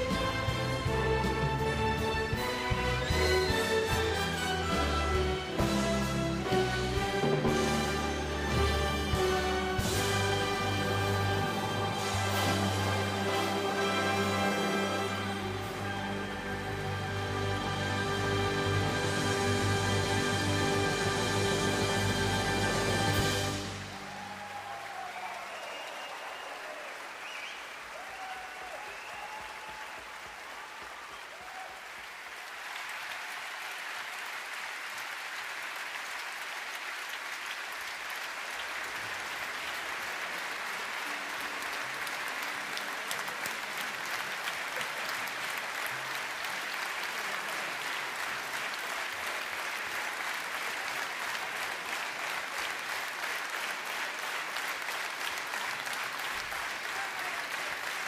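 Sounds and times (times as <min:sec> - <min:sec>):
audience applauding: 0:00.0 - 0:58.0.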